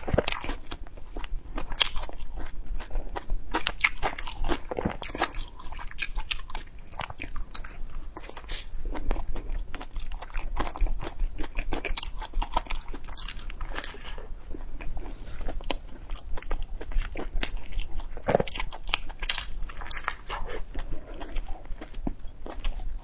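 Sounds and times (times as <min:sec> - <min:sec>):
crunchy chewing of fried bread: 0:00.0 - 0:23.0.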